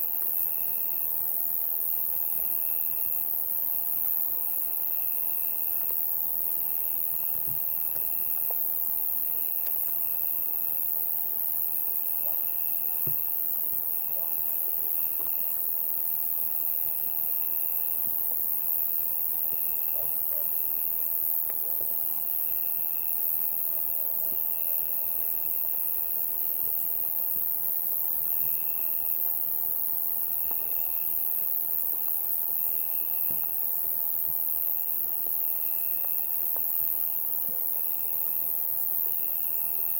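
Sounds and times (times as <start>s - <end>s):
lower insect trill: 0.0s - 39.9s
crickets shrilling: 0.3s - 39.9s.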